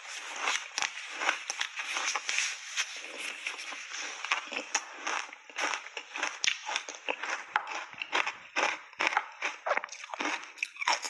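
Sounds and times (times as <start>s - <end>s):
frozen ice being chewed: 0.0s - 11.0s.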